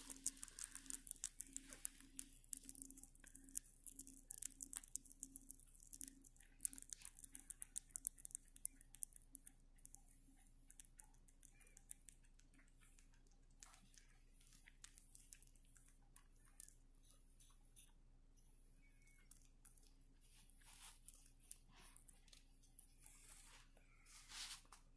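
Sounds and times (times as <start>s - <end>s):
rabbit chewing: 0.0s - 24.9s.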